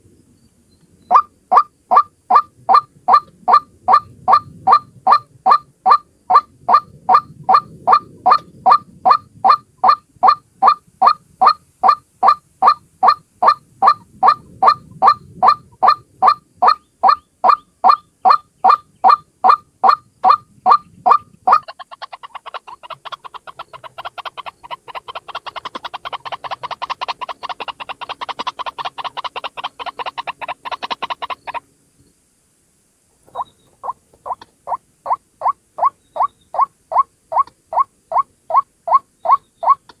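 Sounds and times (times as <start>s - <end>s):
bird calling repeated notes: 1.0s - 31.6s, 33.3s - 40.0s
bird chattering: 1.1s - 31.6s, 33.3s - 40.0s.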